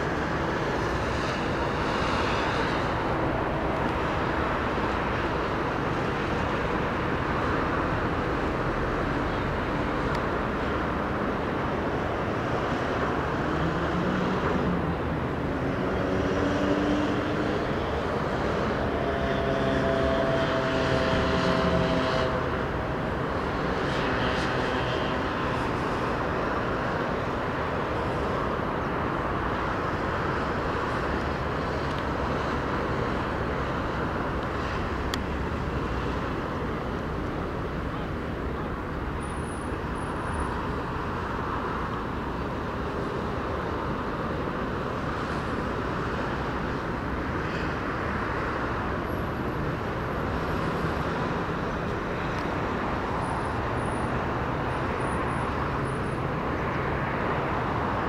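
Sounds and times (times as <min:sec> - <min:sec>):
distant city traffic rumble: 0:00.0 - 0:58.0.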